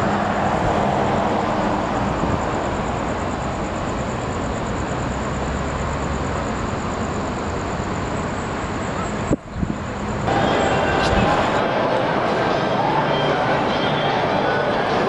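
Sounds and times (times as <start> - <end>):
street traffic roar: 0.0 - 15.0.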